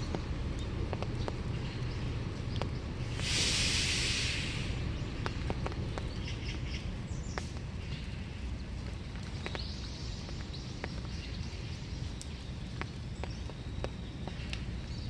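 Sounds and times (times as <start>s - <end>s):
rain falling: 0.0s - 15.0s
raindrops ticking: 0.0s - 15.0s
small birds chirping: 0.0s - 15.0s.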